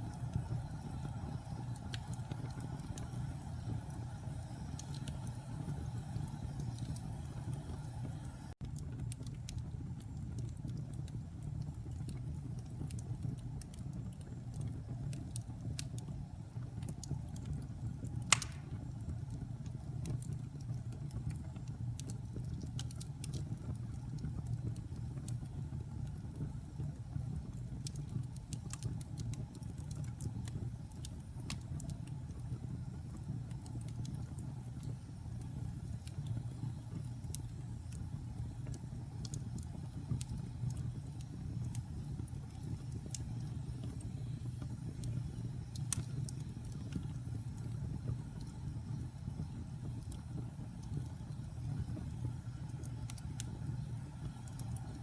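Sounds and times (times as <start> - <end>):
low rumble of burning: 0.0 - 55.0
wood fire crackling and popping: 0.0 - 55.0.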